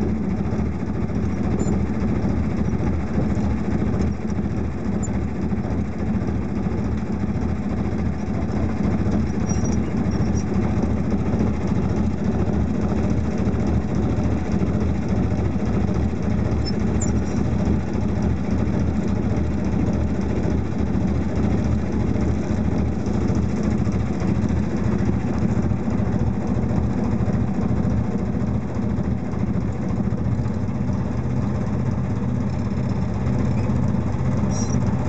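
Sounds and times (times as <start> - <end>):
boat engine droning: 0.0 - 35.0.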